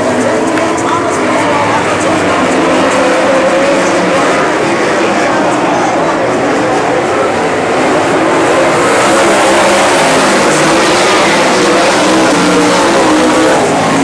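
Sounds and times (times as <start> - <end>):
racing car engines roaring: 0.0 - 14.0.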